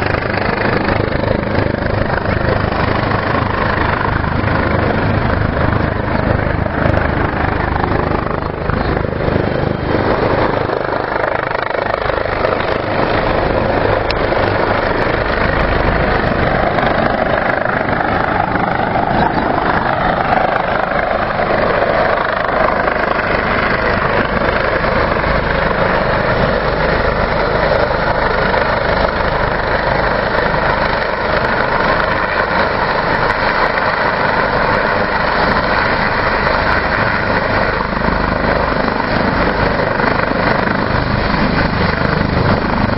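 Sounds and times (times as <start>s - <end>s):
helicopter engines and rotor blades: 0.0s - 42.9s.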